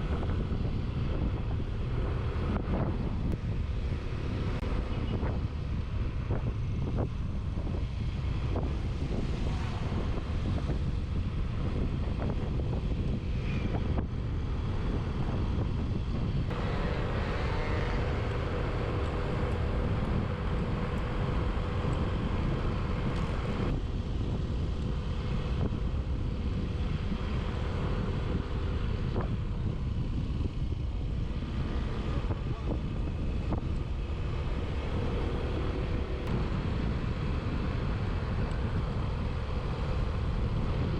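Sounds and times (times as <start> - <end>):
engine hum: 0.0 - 40.9
road and wind rumble: 0.0 - 40.9.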